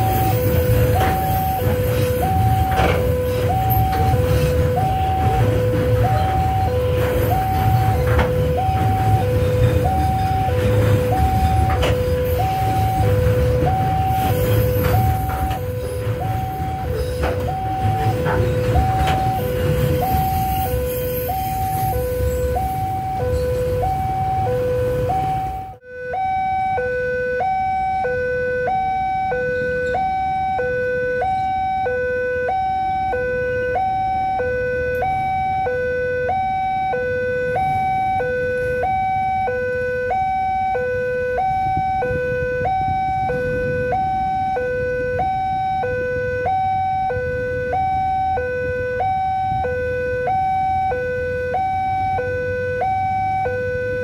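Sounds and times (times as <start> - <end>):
two-tone crossing alarm: 0.0 - 54.0.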